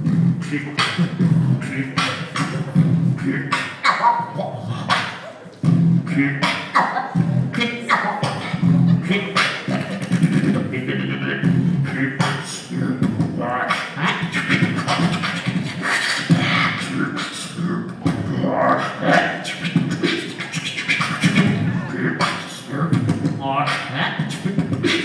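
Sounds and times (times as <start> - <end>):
beatboxing: 0.0 - 25.0.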